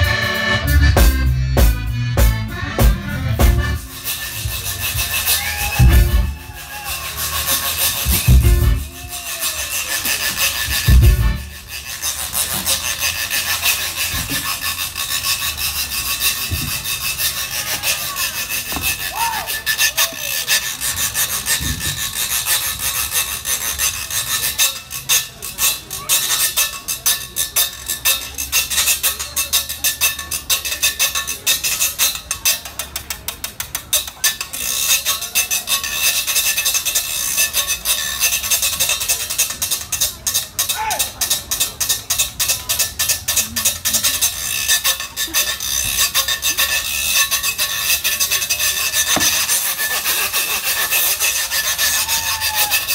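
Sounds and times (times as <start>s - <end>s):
rubboard scraped rhythmically: 0.0s - 52.9s.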